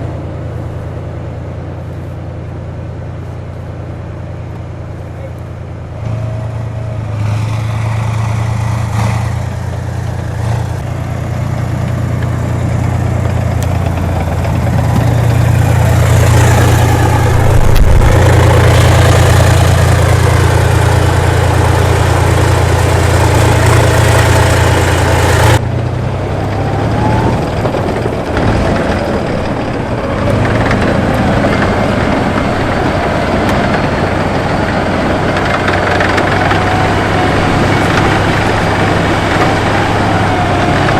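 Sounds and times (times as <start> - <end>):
tank diesel engine running: 0.0 - 40.9.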